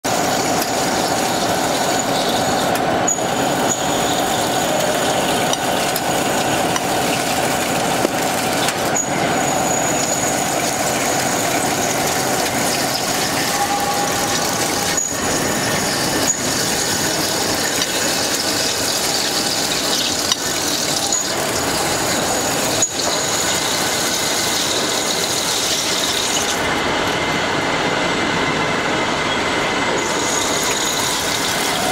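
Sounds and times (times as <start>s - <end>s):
drilling machine cutting metal: 0.0s - 27.2s, 29.8s - 31.9s
thin high whine: 0.1s - 31.9s.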